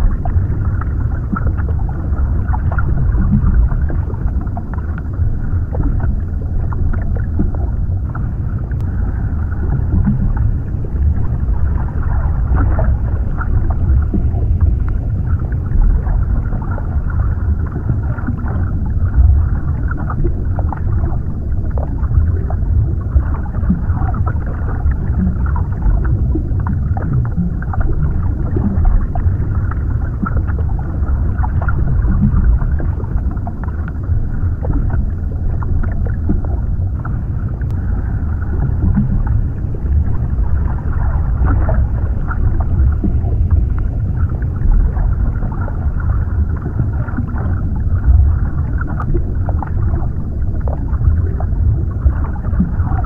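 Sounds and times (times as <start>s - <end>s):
deep underwater rumbling wash: 0.0s - 53.0s
faint ticks and gurgles: 0.0s - 53.0s.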